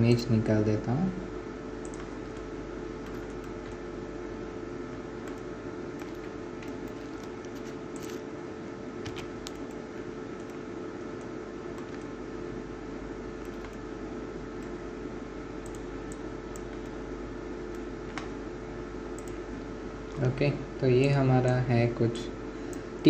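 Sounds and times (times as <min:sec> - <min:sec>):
low hum and hiss: 0:00.0 - 0:23.0.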